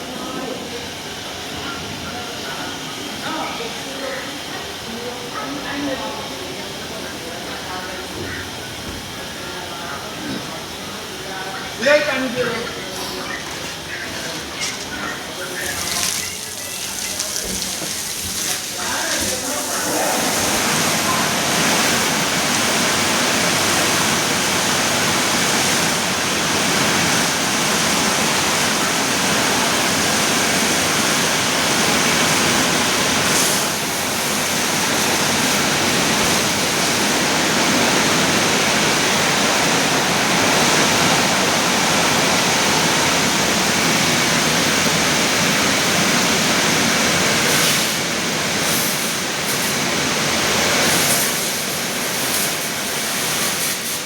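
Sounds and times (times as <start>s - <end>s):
car-wash spraying water: 0.0s - 54.0s.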